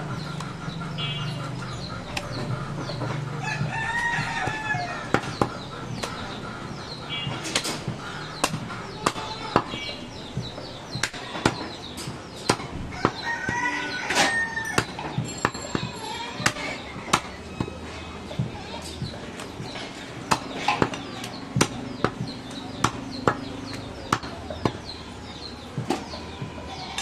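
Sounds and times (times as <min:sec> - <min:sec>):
chickens calling: 0:00.0 - 0:27.0.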